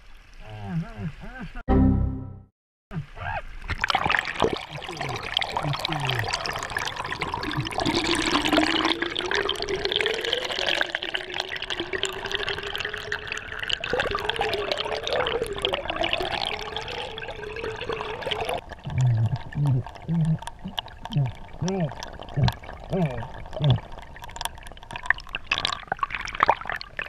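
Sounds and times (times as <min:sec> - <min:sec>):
river water rushing underwater: 0:03.6 - 0:27.0.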